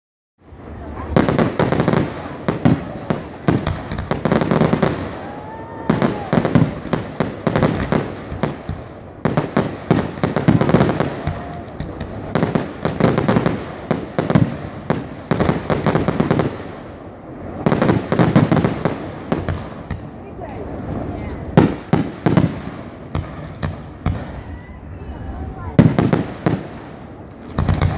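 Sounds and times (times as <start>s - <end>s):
fireworks bangs and crackles: 0.4s - 27.9s.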